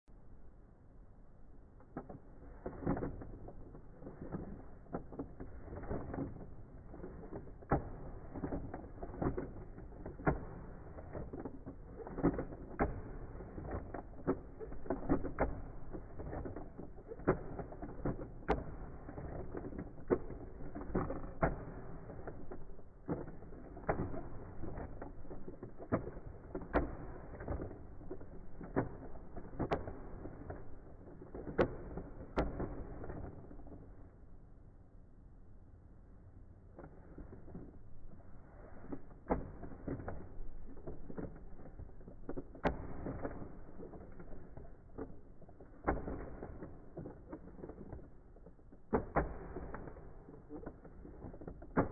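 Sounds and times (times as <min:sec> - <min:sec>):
plastic toys clicking and knocking: 0:01.8 - 0:33.9, 0:38.8 - 0:51.9.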